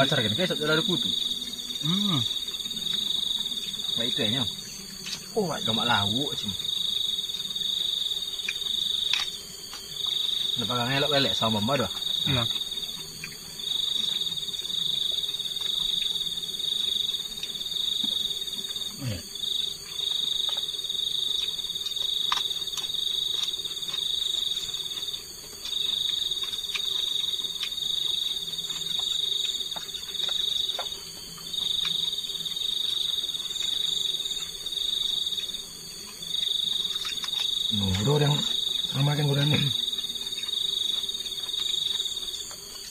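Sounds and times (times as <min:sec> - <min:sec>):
crickets chirping: 0:00.0 - 0:42.9
faint eating clicks: 0:00.0 - 0:42.9.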